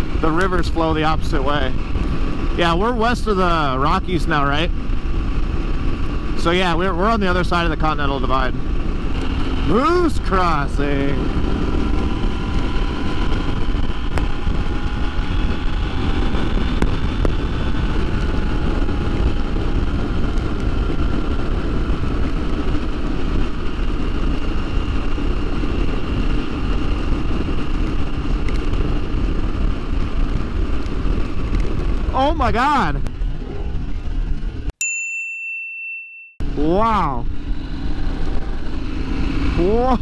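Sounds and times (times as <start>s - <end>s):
motorcycle engine drone: 0.0s - 34.8s, 36.4s - 40.0s
wind and road noise: 0.0s - 34.8s, 36.4s - 40.0s.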